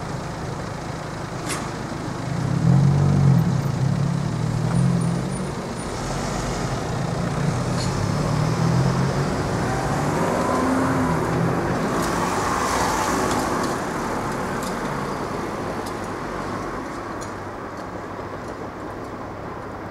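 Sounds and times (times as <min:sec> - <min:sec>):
cars driving past: 0:00.9 - 0:17.6.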